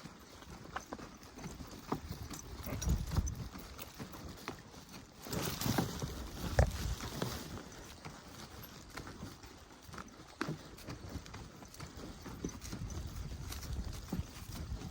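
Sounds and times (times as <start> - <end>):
footsteps on forest track: 0.0 - 14.9.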